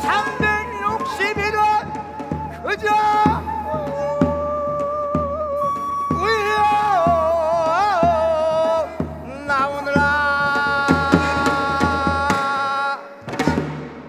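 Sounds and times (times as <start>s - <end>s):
drum strokes: 0.0s - 14.0s
man singing with wide vibrato: 0.0s - 14.0s.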